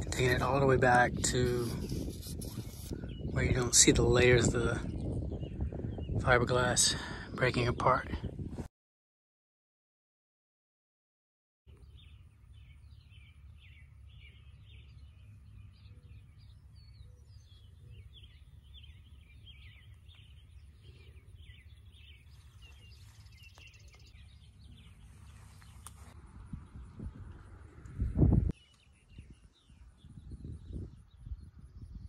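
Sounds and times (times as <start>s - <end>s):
birds chirping: 0.0s - 8.4s, 11.7s - 32.0s.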